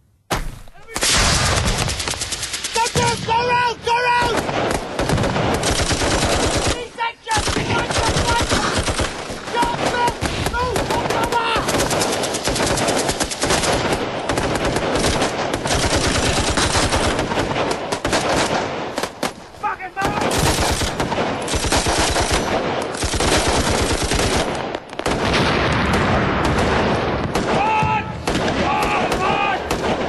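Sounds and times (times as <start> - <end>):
rapid automatic gunfire: 1.0 - 3.2, 4.4 - 19.4, 20.0 - 27.6.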